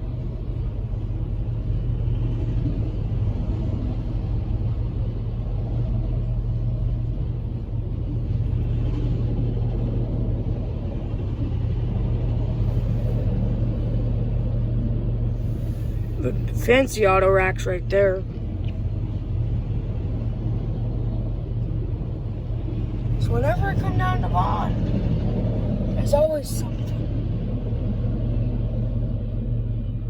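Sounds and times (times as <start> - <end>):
even hum: 0.0 - 30.0
freight train rumbling past: 0.0 - 30.0.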